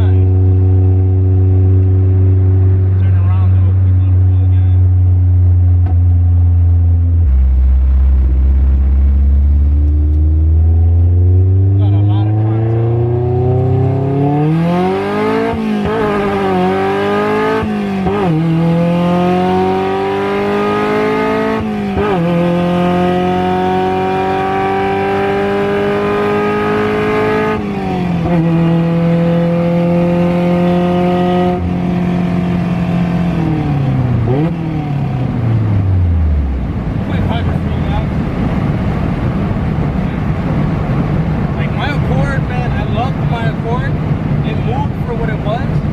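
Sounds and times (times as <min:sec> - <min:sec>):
car engine shifting gears: 0:00.0 - 0:45.9.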